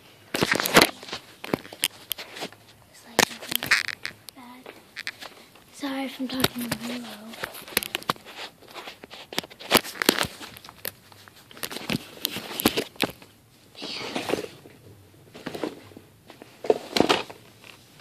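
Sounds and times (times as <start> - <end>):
rustling: 0.1 - 14.6.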